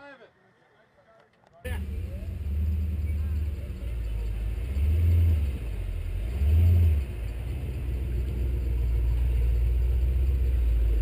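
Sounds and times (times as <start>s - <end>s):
truck engine revving: 1.7s - 11.0s.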